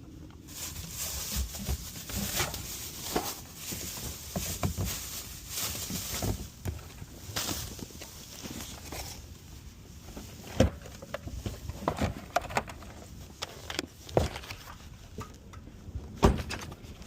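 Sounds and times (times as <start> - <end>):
knocks and rustles: 0.6 - 9.2, 10.0 - 17.0.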